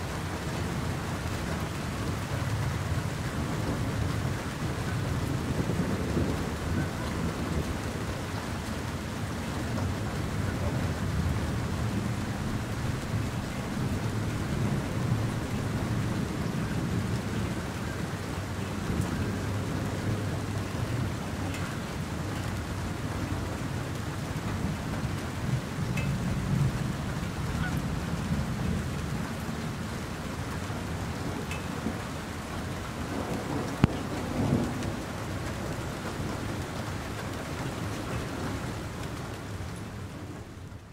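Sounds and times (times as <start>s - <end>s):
rain falling on lake: 0.0s - 40.9s
thunder rumbling: 0.0s - 40.9s.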